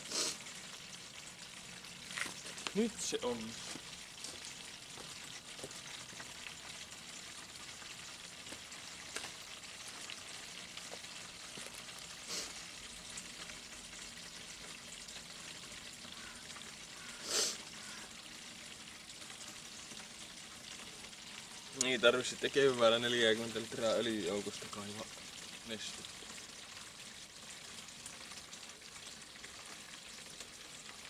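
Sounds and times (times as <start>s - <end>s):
liquid trickling into container: 0.0s - 31.0s.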